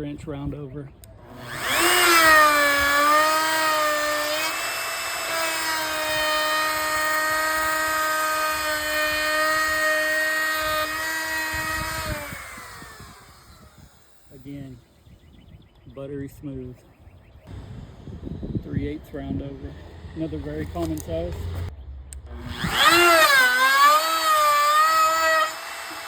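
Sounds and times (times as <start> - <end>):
router motor whining: 1.0 - 15.3, 17.5 - 26.0.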